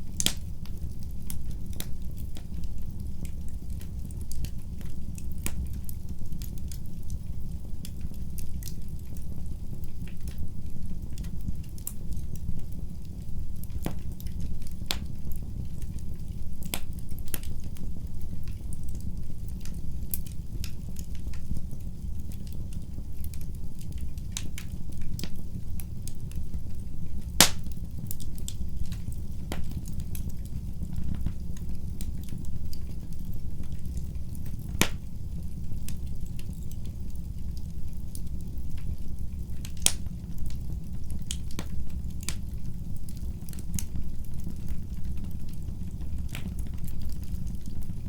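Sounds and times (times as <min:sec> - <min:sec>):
fire crackling and popping: 0:00.0 - 0:48.0
flames rumbling: 0:00.0 - 0:48.0.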